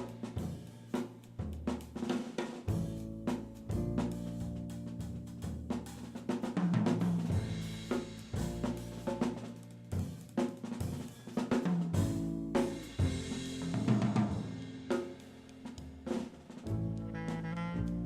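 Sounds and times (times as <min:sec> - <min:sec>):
drum kit hits: 0:00.0 - 0:17.6
jazz group playing: 0:00.0 - 0:18.0.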